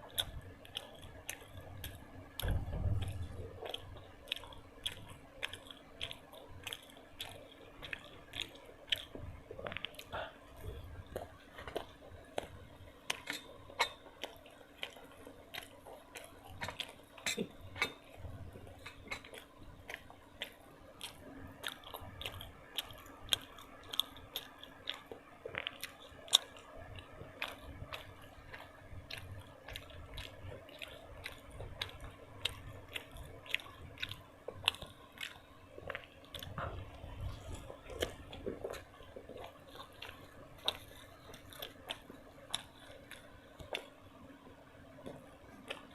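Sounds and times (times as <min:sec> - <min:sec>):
person chewing crunchy food: 0:00.0 - 0:45.9.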